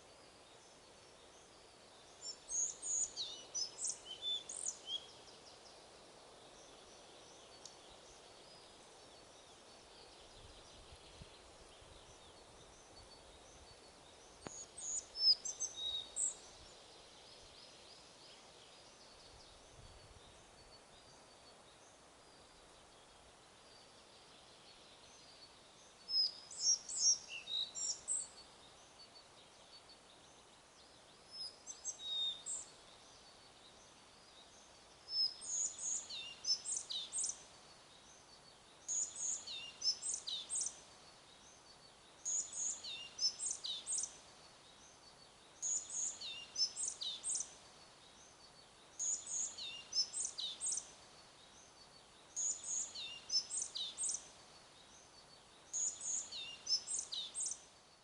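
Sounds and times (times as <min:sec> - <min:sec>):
faint steady hiss: 0:00.0 - 0:58.0
songbird singing: 0:00.0 - 0:58.0.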